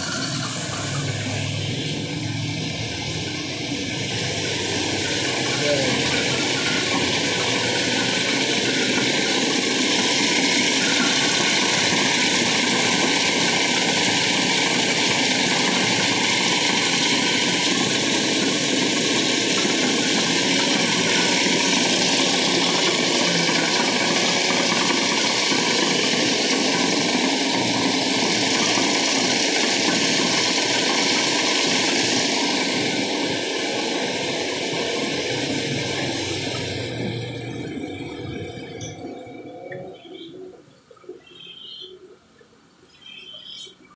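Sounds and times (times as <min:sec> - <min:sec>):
workshop machinery whirring: 0:00.0 - 0:42.1.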